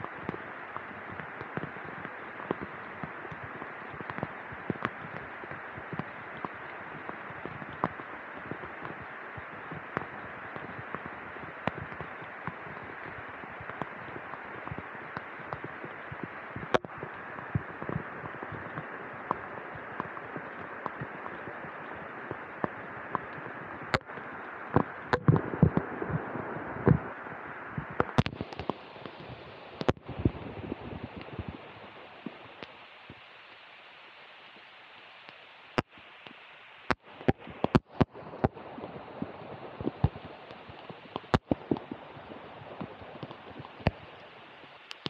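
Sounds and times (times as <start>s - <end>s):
raindrops tapping near microphone: 0.0s - 45.0s
rainfall hiss: 0.0s - 45.0s.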